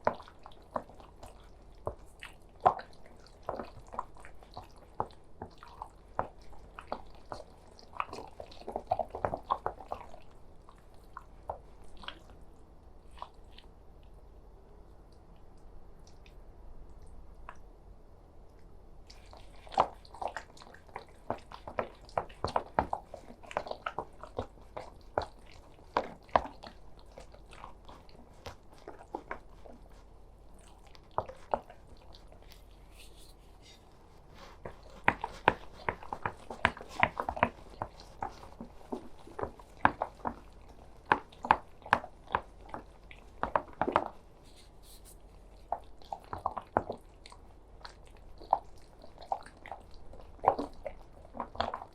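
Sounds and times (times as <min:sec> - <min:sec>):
squelching of wet food mixture: 0:00.0 - 0:17.7, 0:18.6 - 0:51.9.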